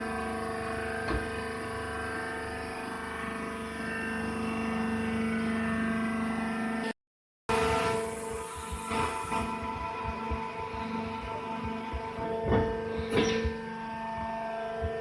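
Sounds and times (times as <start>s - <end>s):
electric motor and pump humming: 0.0s - 6.9s, 7.5s - 15.0s.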